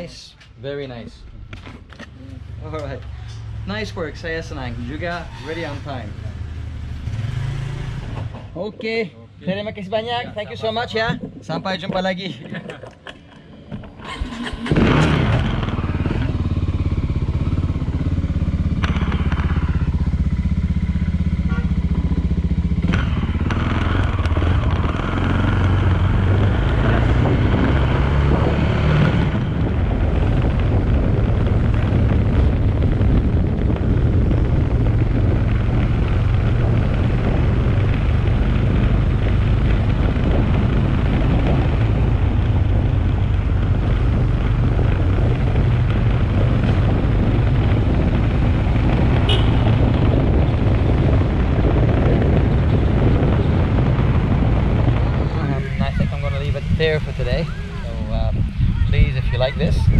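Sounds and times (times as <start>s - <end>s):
motorcycle engine: 1.2s - 8.7s, 10.3s - 59.9s
wind noise on microphone: 10.3s - 59.9s.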